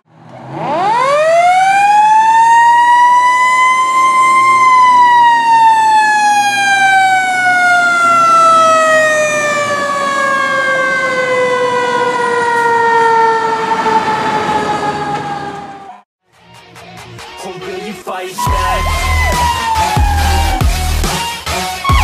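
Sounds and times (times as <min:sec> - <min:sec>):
fire engine siren winding down: 0:00.3 - 0:16.1, 0:18.4 - 0:22.0.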